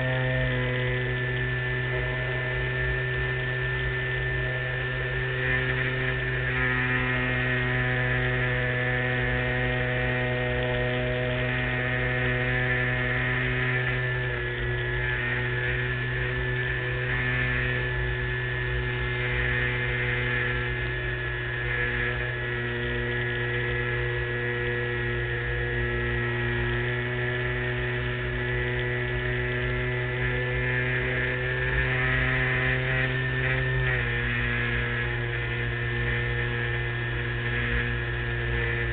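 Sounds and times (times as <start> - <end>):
model airplane motor humming: 0.0 - 38.9.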